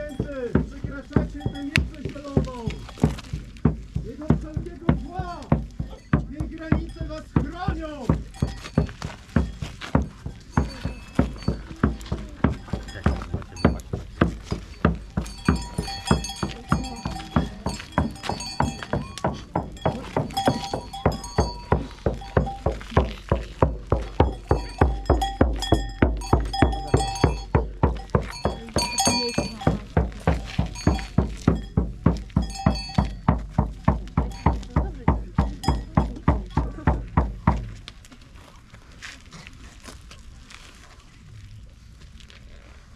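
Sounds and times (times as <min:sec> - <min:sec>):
metallic jingling and clinking: 0:00.0 - 0:37.2
steady drumbeat: 0:00.0 - 0:37.8.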